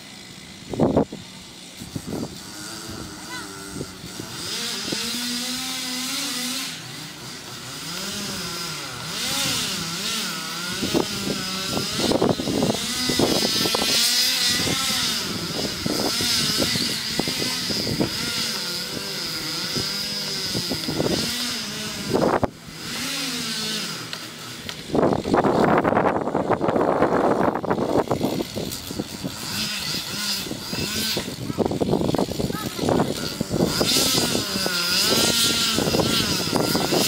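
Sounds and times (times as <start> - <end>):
chainsaw revving and cutting: 0.0 - 37.0.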